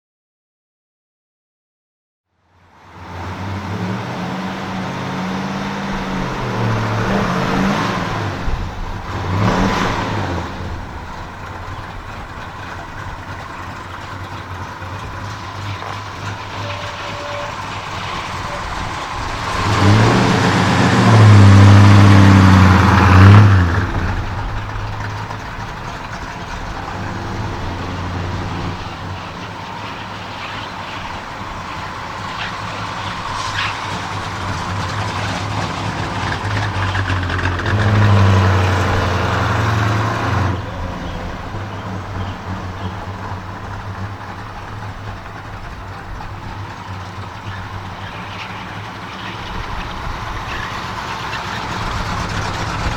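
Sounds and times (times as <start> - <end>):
car engine idling and revving: 2.6 - 52.9.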